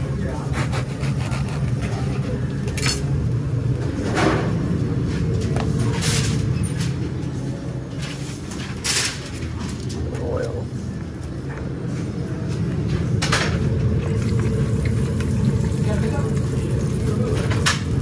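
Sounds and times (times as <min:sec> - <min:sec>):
kitchen equipment hum: 0:00.0 - 0:18.0.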